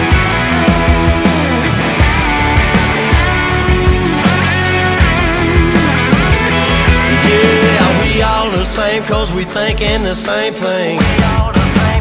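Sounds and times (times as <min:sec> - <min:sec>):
electric guitar: 0:00.0 - 0:12.0
steady drum beat: 0:00.0 - 0:12.0.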